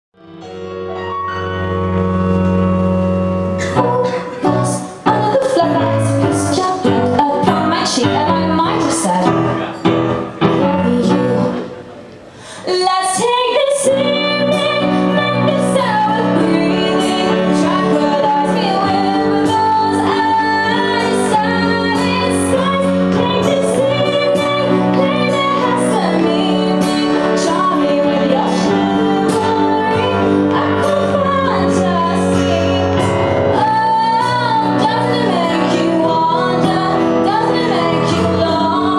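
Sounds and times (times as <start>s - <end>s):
digital piano: 0.2s - 38.9s
acoustic guitar: 0.3s - 38.9s
woman singing: 3.6s - 9.6s, 10.4s - 11.8s, 12.6s - 38.9s.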